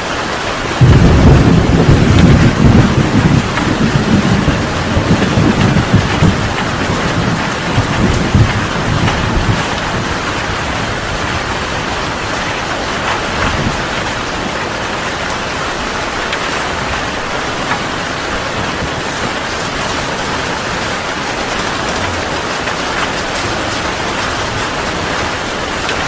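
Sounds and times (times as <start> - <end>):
heavy rain hissing: 0.0 - 26.0
low thunder rumble: 0.8 - 26.0.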